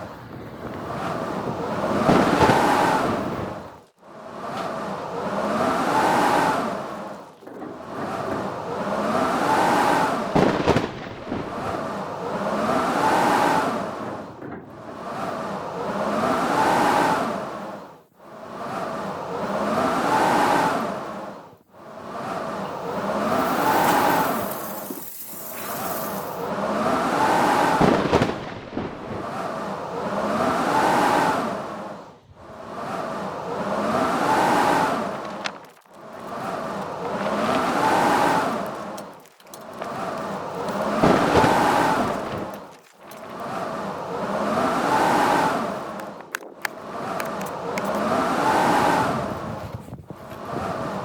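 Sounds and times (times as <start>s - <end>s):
blizzard wind howling in gusts: 0.0s - 51.0s.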